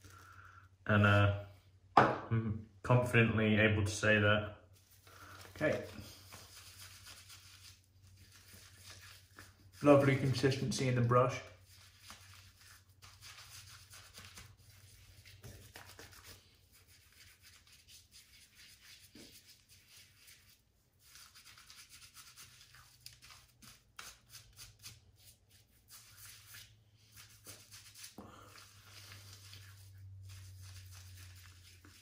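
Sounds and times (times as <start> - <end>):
hands rubbing lather on face: 4.8 - 32.0.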